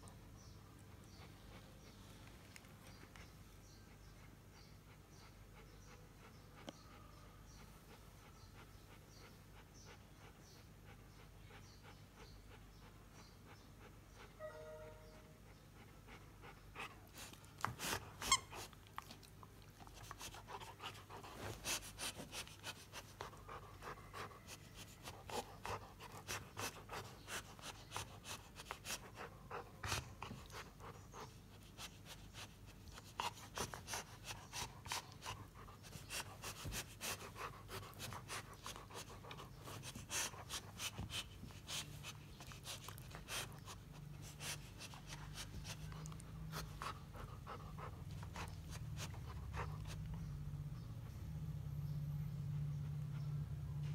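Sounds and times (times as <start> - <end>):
dog panting: 0.8 - 14.4, 15.4 - 53.9.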